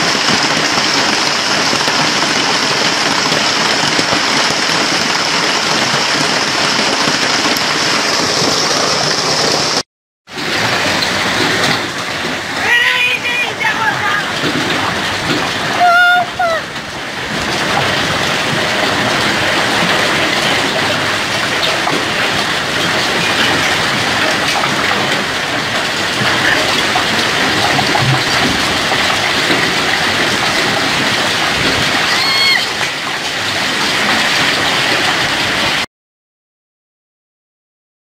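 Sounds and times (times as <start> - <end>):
hail and heavy rain clattering: 0.0 - 35.9.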